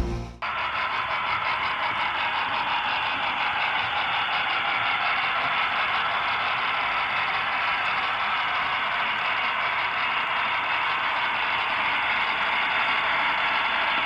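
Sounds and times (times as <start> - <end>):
steam engine sounds from speakers: 0.0 - 14.0
model train motors whirring: 0.4 - 14.0.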